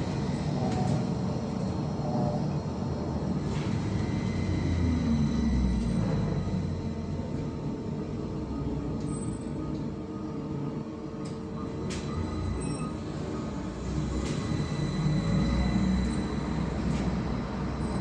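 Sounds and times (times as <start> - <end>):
thin high whine: 0.0 - 18.0
trolleybus rumble: 0.0 - 18.0.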